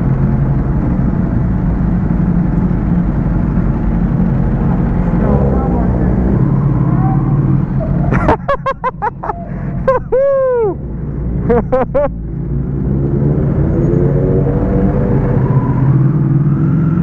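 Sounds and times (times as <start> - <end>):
motorcycle engines revving: 0.0 - 10.0, 10.8 - 17.0
low hum of engines running: 0.0 - 17.0.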